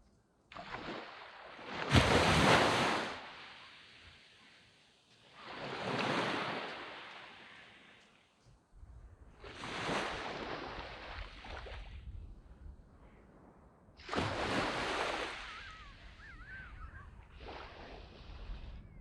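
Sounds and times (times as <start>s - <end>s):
small waves breaking on sand: 0.5s - 8.4s, 9.3s - 12.2s, 14.0s - 19.0s.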